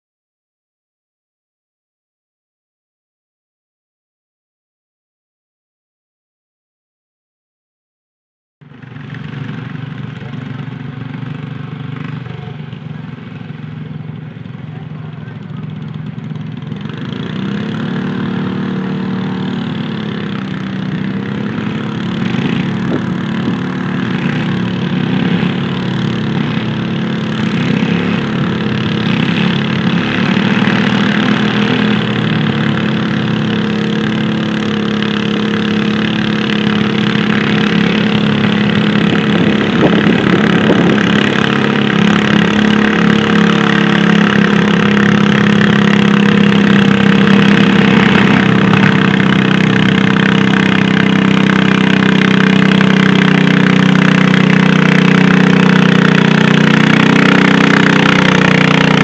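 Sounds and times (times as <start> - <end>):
tractor engine running: 8.6 - 59.0.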